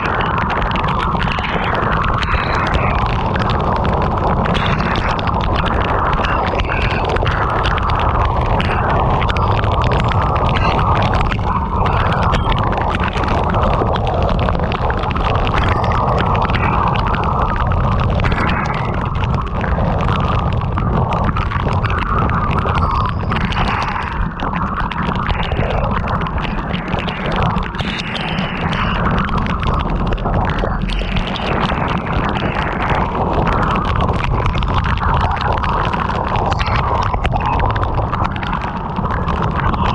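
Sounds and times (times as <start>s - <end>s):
heavy rain on a car: 0.0s - 39.9s
wind and road rumble: 0.0s - 39.9s.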